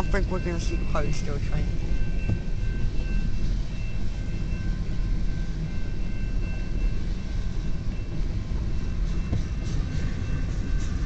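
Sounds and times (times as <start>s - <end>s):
freight train cars rolling past: 0.0s - 11.0s.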